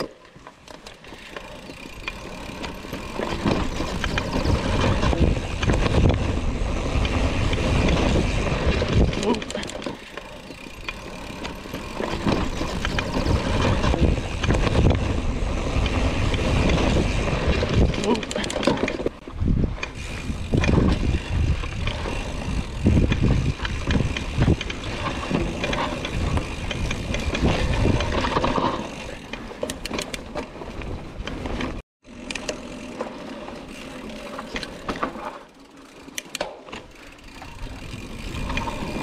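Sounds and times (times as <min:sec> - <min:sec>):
bike rattling and clicking: 0:00.0 - 0:39.0.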